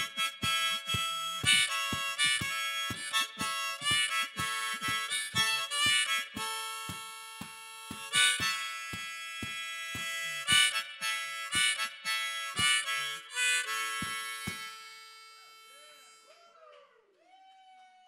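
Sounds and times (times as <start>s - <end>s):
harmonica playing blues: 0.0s - 16.3s.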